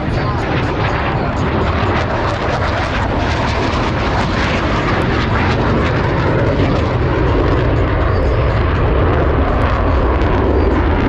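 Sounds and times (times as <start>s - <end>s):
jet fighters flying by: 0.0s - 11.0s.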